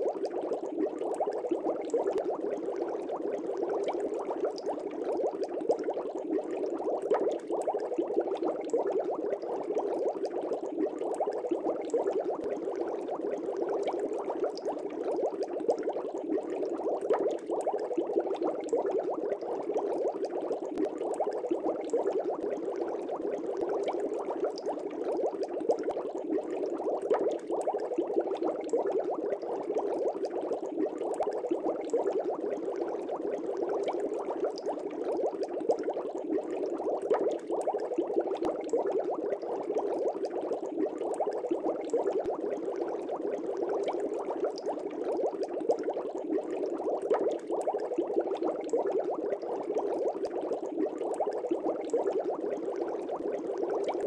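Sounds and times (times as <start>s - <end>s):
aquarium air bubbles bubbling: 0.0s - 54.0s.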